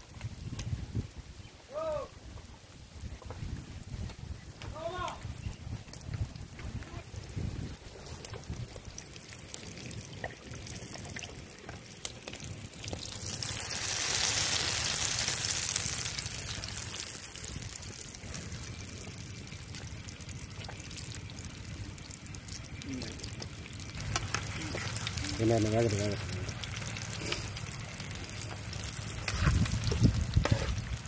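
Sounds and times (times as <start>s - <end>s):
chicken deep-frying in oil: 0.0s - 1.6s, 2.9s - 31.0s.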